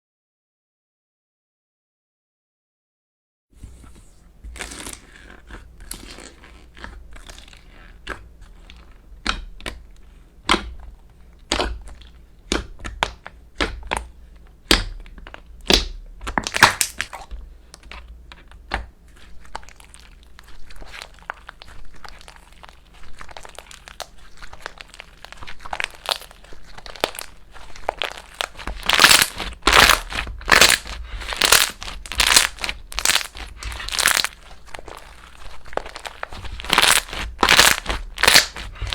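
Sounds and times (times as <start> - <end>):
slime crackling and popping: 4.6 - 10.9, 11.5 - 38.9.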